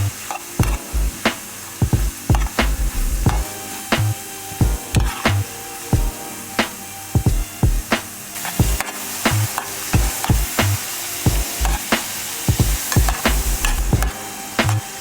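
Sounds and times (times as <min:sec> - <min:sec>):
background music with steady beat: 0:00.0 - 0:15.0
food sizzling in a frying pan: 0:00.0 - 0:15.0.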